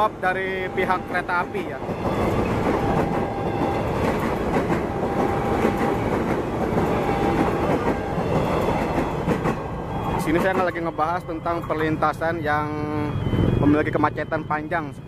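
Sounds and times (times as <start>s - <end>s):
electric train wheels rumbling: 0.0s - 15.0s.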